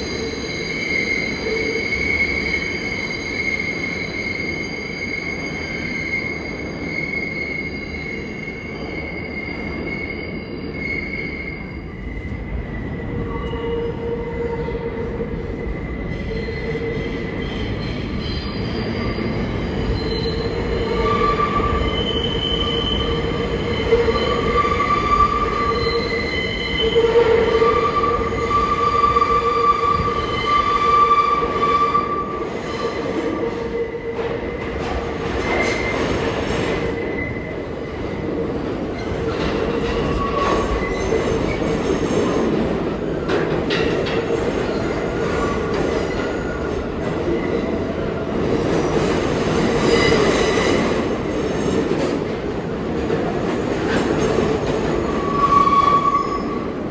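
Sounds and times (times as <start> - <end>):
subway train rumble: 0.0 - 56.9
train wheels squealing: 0.0 - 56.9.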